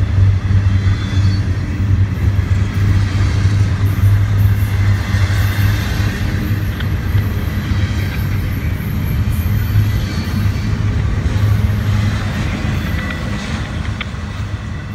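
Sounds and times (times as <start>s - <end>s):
freight train wheels rumbling on rail: 0.0s - 14.9s.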